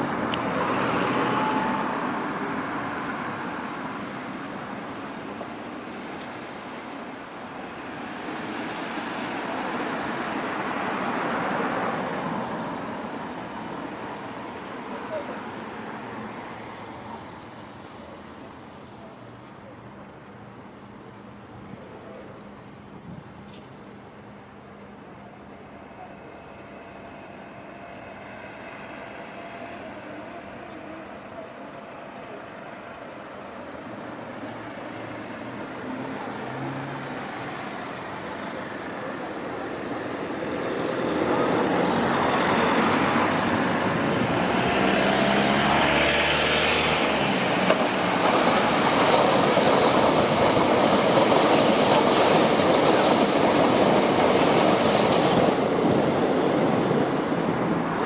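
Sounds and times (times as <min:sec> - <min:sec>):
train passing on rails: 0:00.0 - 0:58.0.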